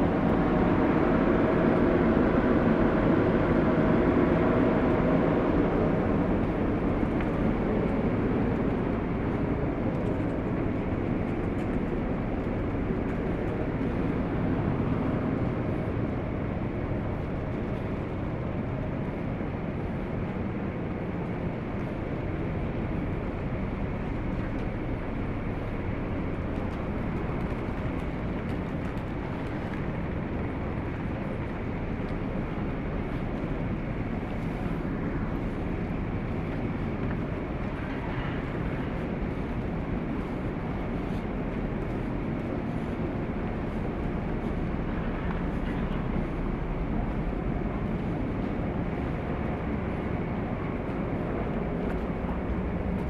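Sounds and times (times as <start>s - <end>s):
ship engines rumbling: 0.0s - 53.0s.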